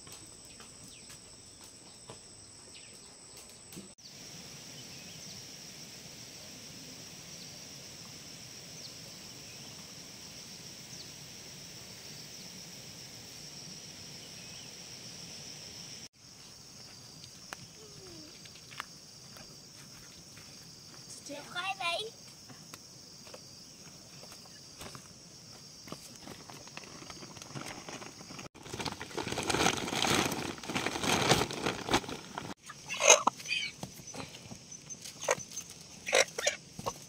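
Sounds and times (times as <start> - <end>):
insects buzzing: 0.1 - 37.0.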